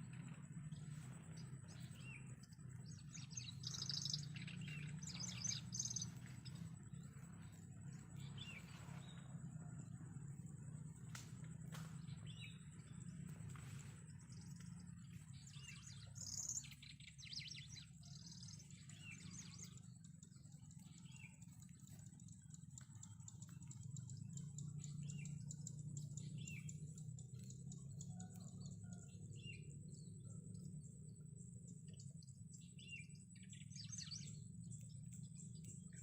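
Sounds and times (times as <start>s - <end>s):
birds chirping: 0.0s - 9.2s, 12.1s - 36.0s
low hum: 0.0s - 36.0s.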